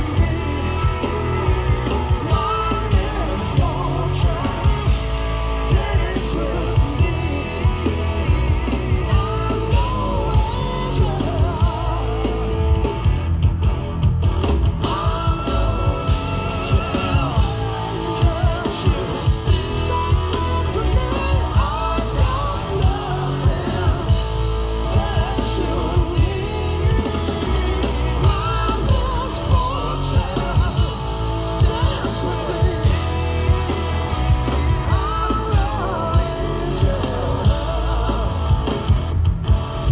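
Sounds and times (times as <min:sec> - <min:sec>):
male lead vocals: 0:00.0 - 0:13.5, 0:14.6 - 0:39.9
bass guitar: 0:00.0 - 0:39.9
electric guitar: 0:00.0 - 0:39.9
steady drum beat: 0:00.0 - 0:39.9.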